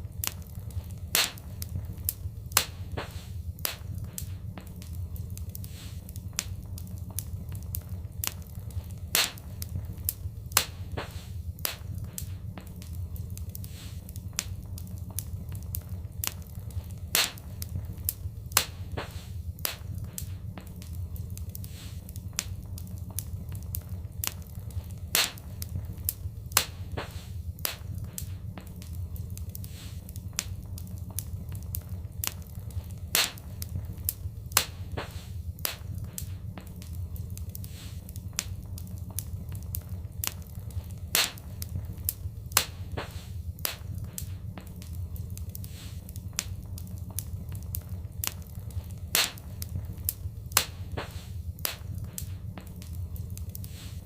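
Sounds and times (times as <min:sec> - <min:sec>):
low rumble: 0:00.0 - 0:53.6
fire crackling and popping: 0:00.0 - 0:54.0.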